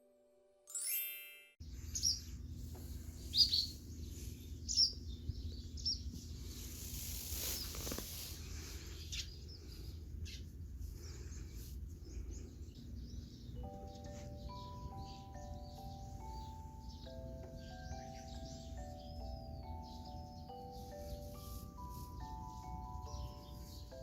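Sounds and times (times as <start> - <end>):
low background rumble: 1.6 - 7.0, 8.2 - 24.0
birds chirping: 1.6 - 24.0.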